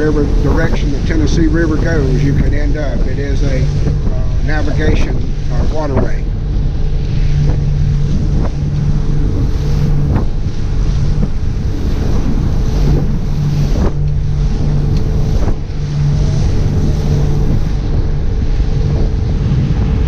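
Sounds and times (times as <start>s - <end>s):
motorboat engine drone: 0.0s - 20.0s
wind buffeting microphone: 0.0s - 20.0s.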